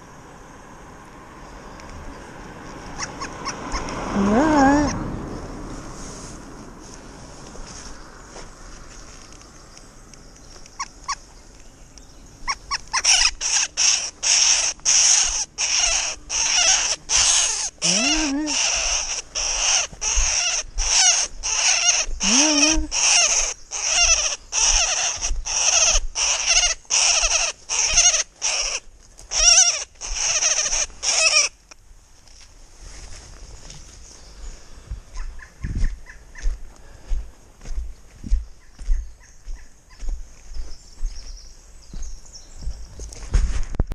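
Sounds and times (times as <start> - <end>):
bird calling: 1.4 - 5.5, 7.7 - 31.8, 33.6 - 37.1, 37.8 - 43.2.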